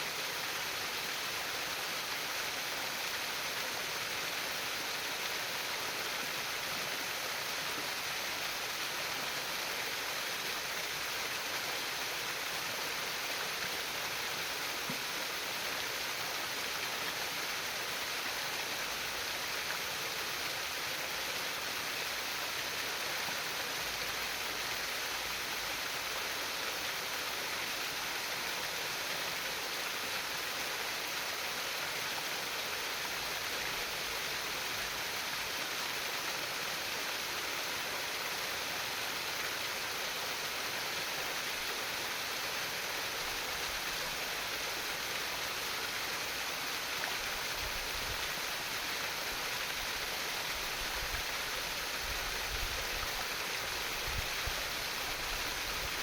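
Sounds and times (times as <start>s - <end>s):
stream flowing over stones: 0.0s - 56.0s.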